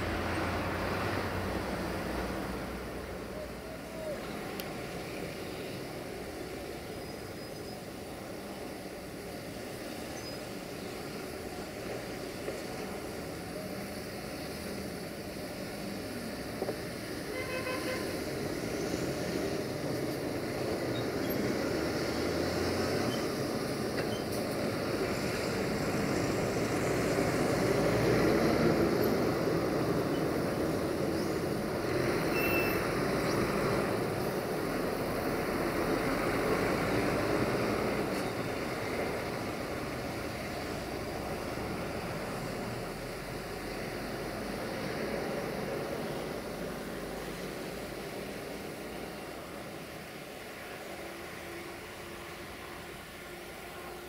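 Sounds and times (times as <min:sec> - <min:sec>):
locomotive engine rumbling: 0:00.0 - 0:54.0.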